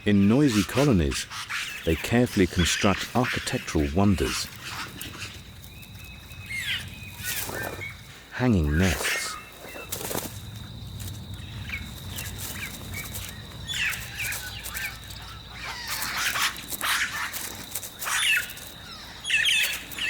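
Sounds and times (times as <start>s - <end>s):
birds calling: 0.0s - 20.0s.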